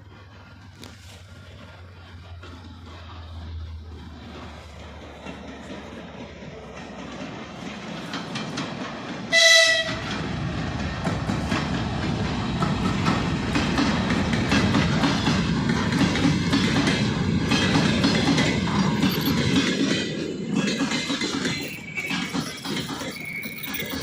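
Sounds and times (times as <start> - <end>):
train rumbling: 0.0 - 24.0
wheels clattering over rail joints: 0.0 - 24.0.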